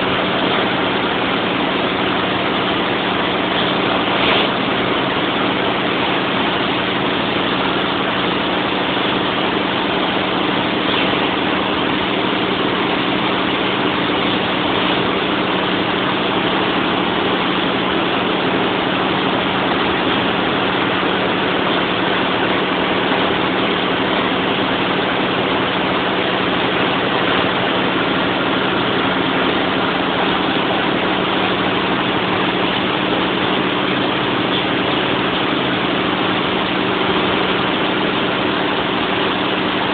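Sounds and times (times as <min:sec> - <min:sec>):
generator engine droning: 0:00.0 - 0:39.9.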